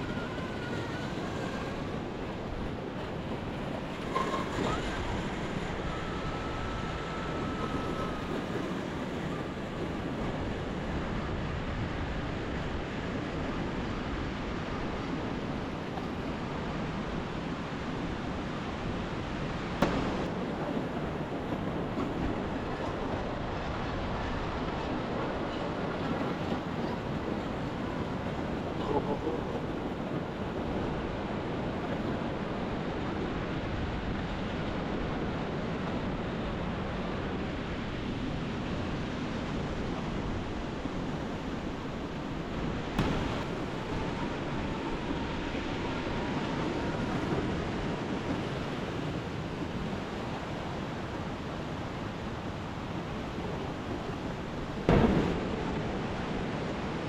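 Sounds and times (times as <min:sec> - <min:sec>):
surf crashing on shore: 0:00.0 - 0:57.0
waves breaking on beach: 0:00.0 - 0:57.0
wind buffeting microphone: 0:00.0 - 0:57.0.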